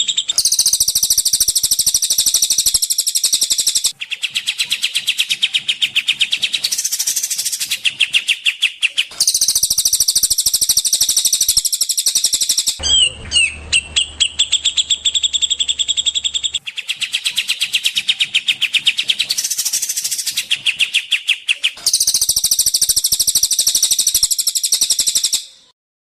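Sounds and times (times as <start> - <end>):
rapid trilled bird song: 0.0 - 25.8.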